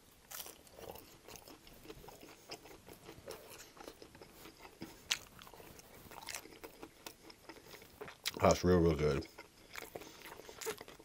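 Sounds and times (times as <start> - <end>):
close chewing with crunches: 0.0 - 11.0.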